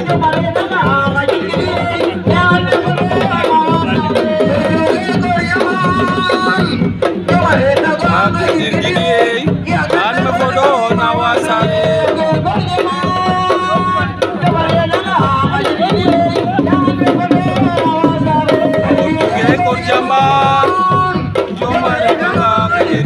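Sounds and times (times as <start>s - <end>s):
hand drums: 0.0s - 23.0s.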